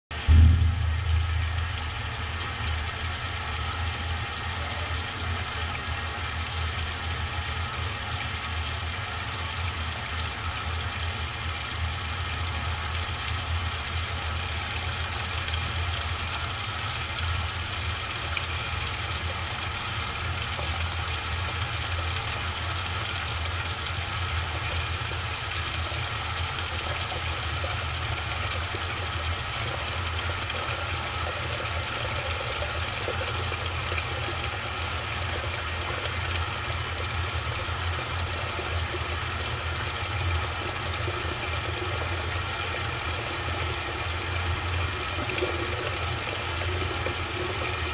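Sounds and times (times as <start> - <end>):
washing machine humming: 0.0 - 47.9
washing machine hiss: 0.2 - 47.9.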